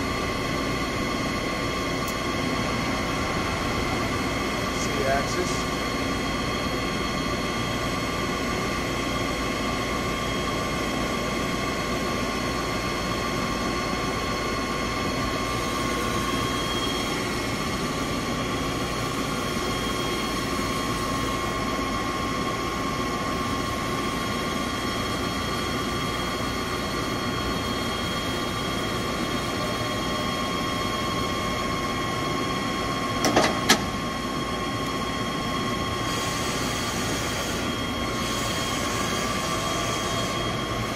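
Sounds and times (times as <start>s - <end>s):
milling machine whine and rumble: 0.0s - 40.9s.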